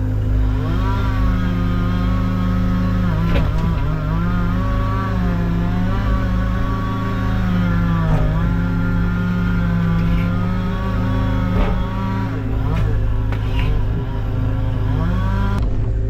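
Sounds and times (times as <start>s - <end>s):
chainsaw cutting wood: 0.0s - 15.7s.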